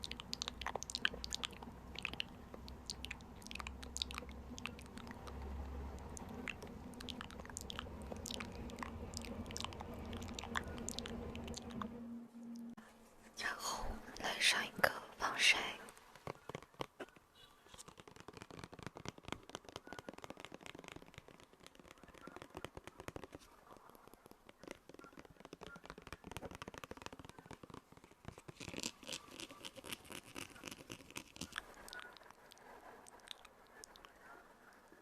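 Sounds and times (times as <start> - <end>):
crackling clicks and scratches: 0.0 - 12.0, 14.2 - 35.0.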